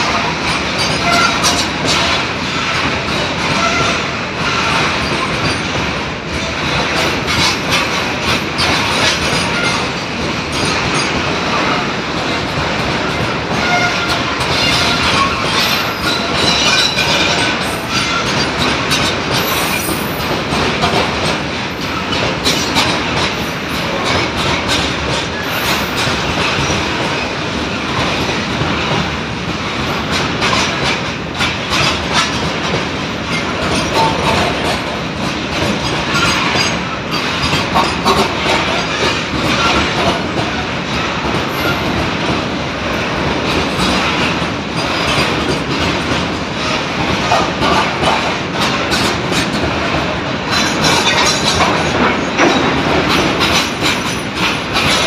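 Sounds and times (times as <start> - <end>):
freight train wheels on rails: 0.0 - 55.0
wheels clicking over rail joints: 0.0 - 55.0.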